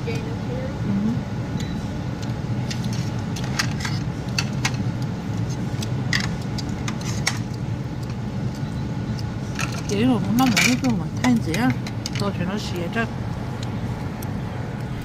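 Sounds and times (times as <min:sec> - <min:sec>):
truck rumble: 0:00.0 - 0:15.0.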